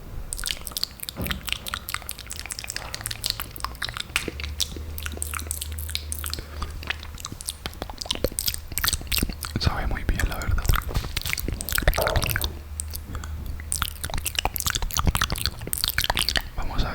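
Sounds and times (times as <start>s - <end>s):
lip smacks: 0.3s - 16.6s
tongue clicks: 0.3s - 16.6s.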